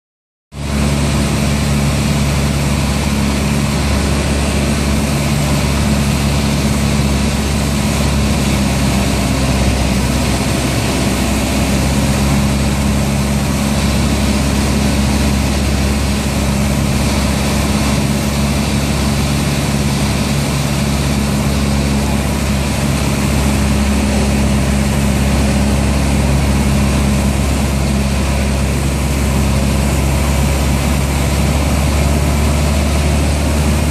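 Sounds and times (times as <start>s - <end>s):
light aircraft engine droning: 0.6s - 33.9s.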